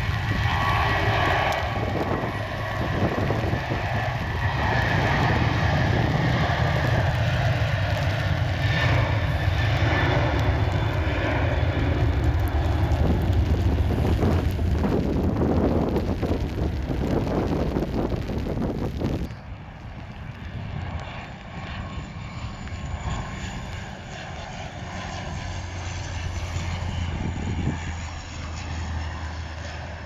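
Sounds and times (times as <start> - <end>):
jet airliner engine rumble: 0.0 - 30.0.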